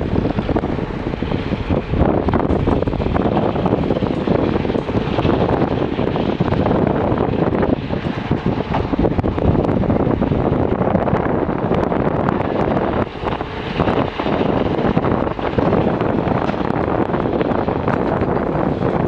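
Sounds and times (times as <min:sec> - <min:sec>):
diesel engine running: 0:00.0 - 0:19.0
wind buffeting microphone: 0:00.0 - 0:19.0.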